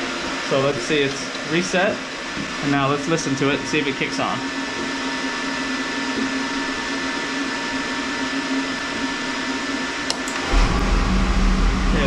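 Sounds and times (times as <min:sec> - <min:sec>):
blower motor whirring: 0:00.0 - 0:12.0
deep rumble of burner flame: 0:00.0 - 0:12.0.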